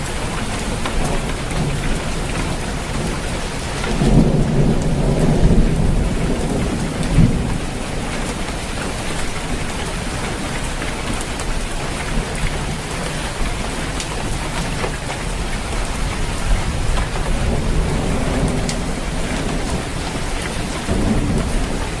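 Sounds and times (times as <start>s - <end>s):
rain drop ticks: 0.0s - 22.0s
rain falling on a roof: 0.0s - 22.0s.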